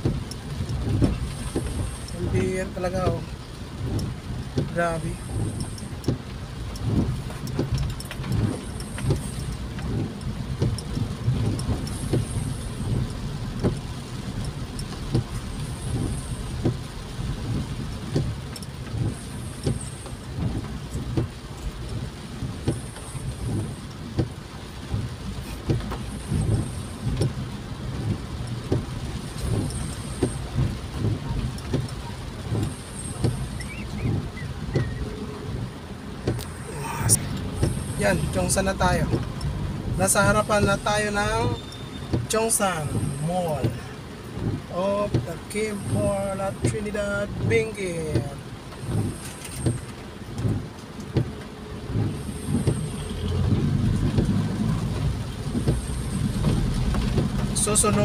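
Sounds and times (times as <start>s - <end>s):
rain tapping: 0.0s - 58.0s
road and engine rumble: 0.0s - 58.0s
windshield wiper swishing: 0.0s - 58.0s.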